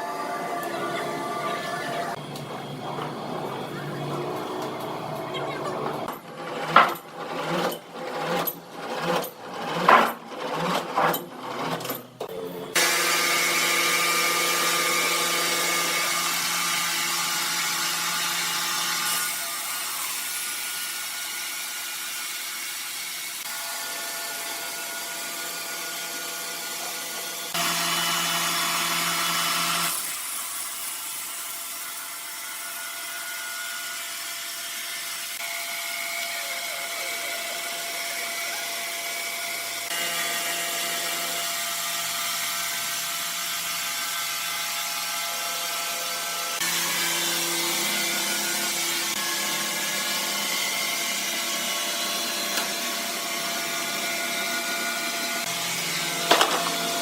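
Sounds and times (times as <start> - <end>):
sawmill saw cutting wood: 0.0 - 57.0.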